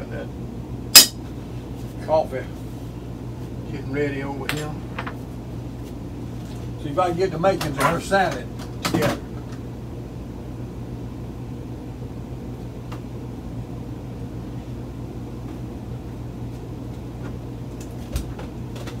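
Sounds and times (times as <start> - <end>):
fan or motor humming: 0.0 - 19.0.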